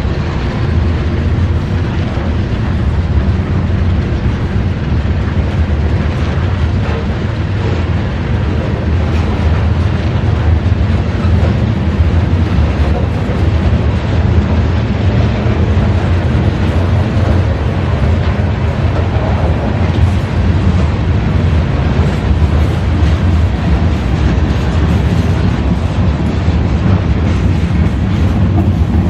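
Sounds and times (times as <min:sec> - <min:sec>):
freight train wheels rolling: 0:00.0 - 0:29.0.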